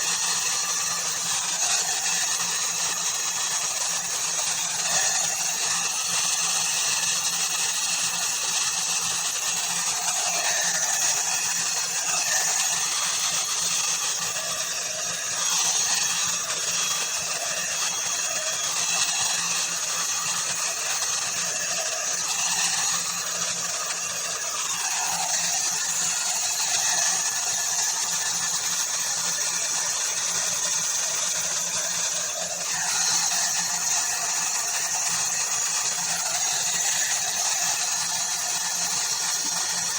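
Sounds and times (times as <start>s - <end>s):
hair dryer motor whine and airflow: 0.0s - 39.9s.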